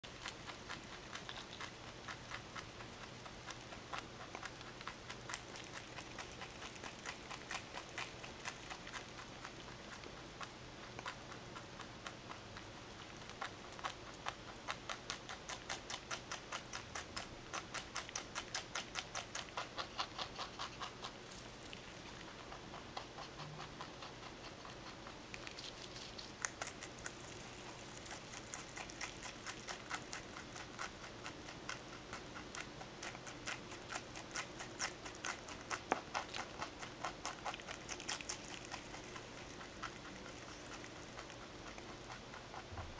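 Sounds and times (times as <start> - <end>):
rabbit chewing stems: 0.0 - 42.9.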